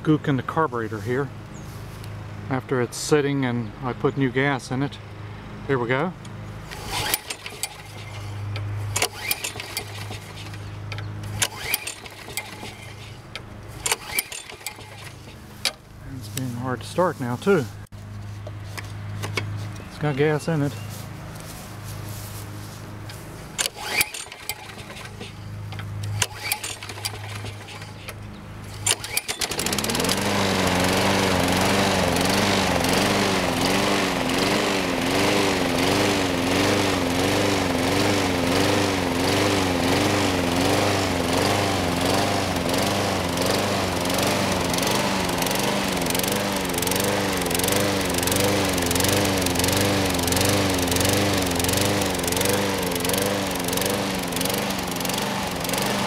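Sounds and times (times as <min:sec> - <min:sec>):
mower engine surging: 0:05.2 - 0:56.0
push mower engine pull-started: 0:06.2 - 0:17.6, 0:18.4 - 0:56.0.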